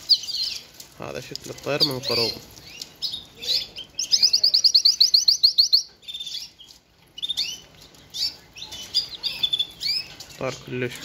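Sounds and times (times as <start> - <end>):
canary singing trills: 0.0 - 10.7.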